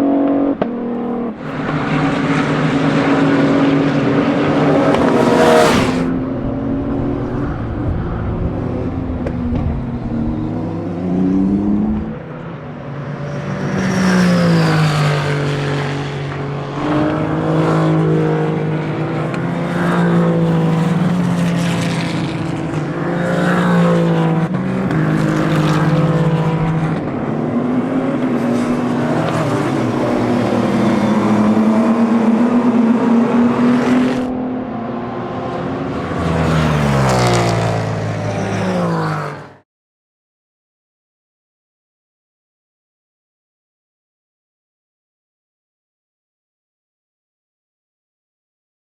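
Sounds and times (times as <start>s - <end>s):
cars passing by: 0.0s - 39.6s
race car engines revving: 0.0s - 39.6s.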